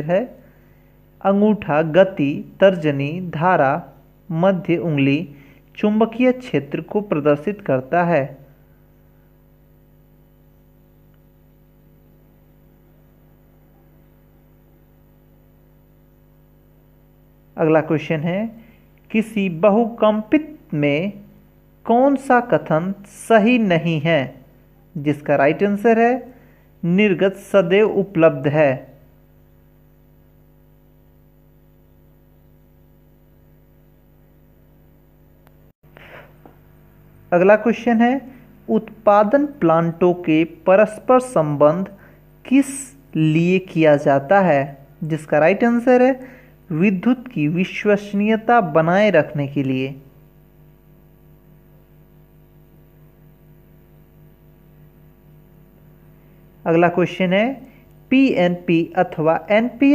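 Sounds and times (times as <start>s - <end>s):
faint electrical mains hum: 0.0s - 59.9s.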